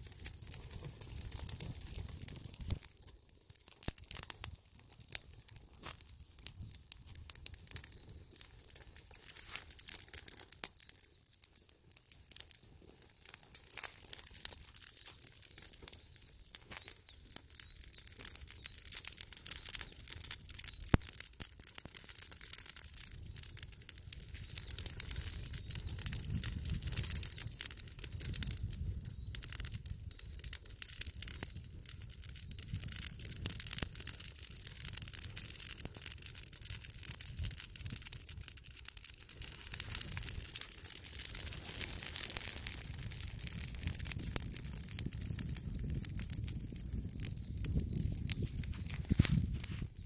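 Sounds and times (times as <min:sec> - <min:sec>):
dry leaves crackling in fire: 0:00.0 - 0:50.0
low rumble of flames: 0:00.0 - 0:50.0.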